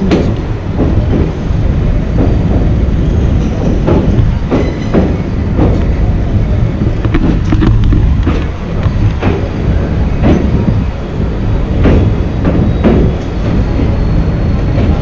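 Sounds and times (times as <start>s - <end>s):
train rumbling: 0.0s - 15.0s
train wheels clacking over rail joints: 0.0s - 15.0s.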